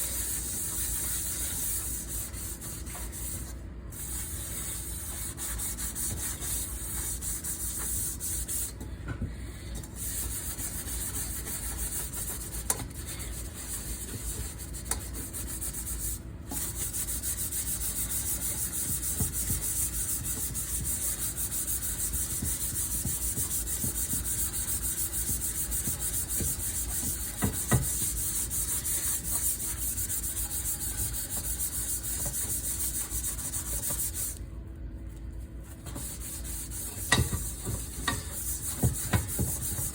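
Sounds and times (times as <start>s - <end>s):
pan being scrubbed: 0.0s - 8.8s, 9.8s - 34.4s, 35.8s - 39.9s.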